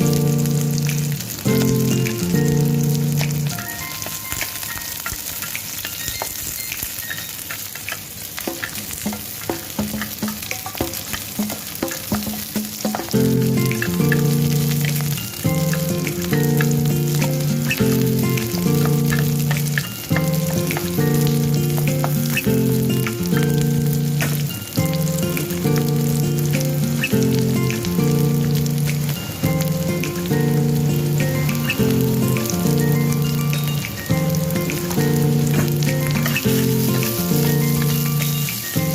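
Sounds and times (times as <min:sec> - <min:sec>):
background music with held notes: 0:00.0 - 0:07.8, 0:12.9 - 0:38.9
food sizzling in a pan: 0:00.0 - 0:38.9.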